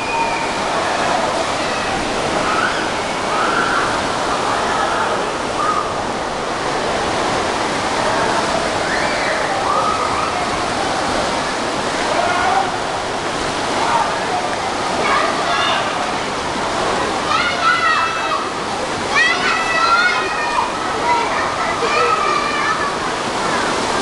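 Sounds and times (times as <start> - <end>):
faint voices: 0.0 - 24.0
rushing churning water: 0.0 - 24.0.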